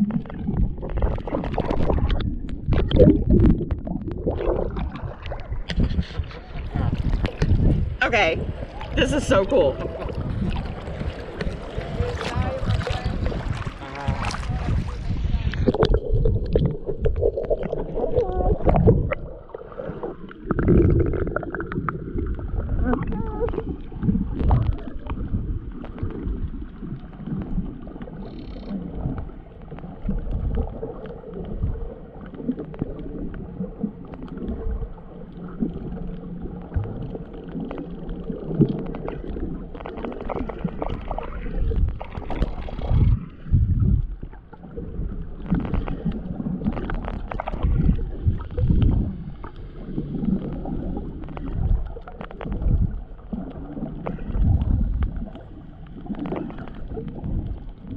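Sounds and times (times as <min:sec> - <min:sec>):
muffled water sloshing underwater: 0:00.0 - 0:57.9.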